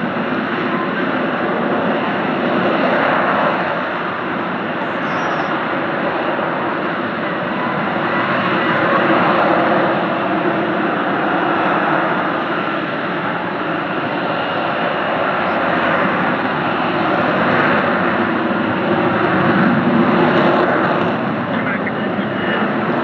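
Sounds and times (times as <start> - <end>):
aircraft engine flying over: 0.0 - 23.0.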